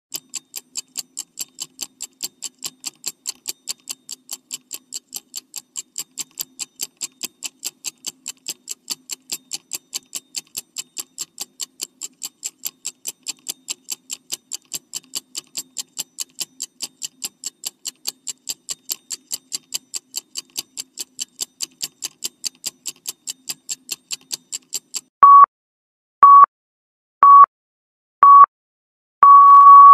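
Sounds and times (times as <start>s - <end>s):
clock ticking: 0.1s - 25.1s.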